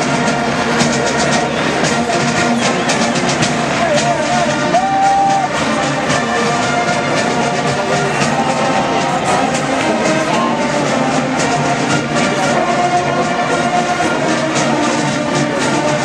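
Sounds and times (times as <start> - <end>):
military marching band: 0.0 - 16.0.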